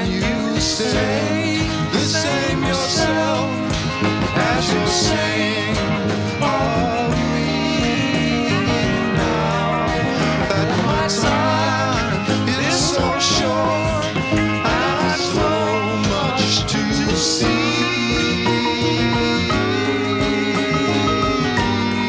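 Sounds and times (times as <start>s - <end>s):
bass: 0.0s - 22.0s
drums with cymbal hits: 0.0s - 22.0s
lead guitar with bending notes: 0.0s - 22.0s.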